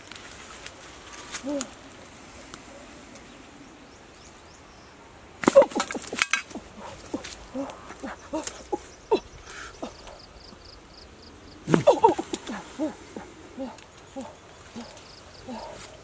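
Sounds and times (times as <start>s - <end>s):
leaves and twigs rustling: 0.0s - 16.0s.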